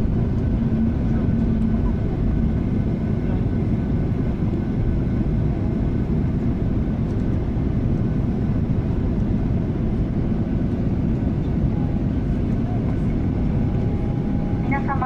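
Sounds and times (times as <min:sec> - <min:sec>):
low rumble of jet engines: 0:00.0 - 0:15.0.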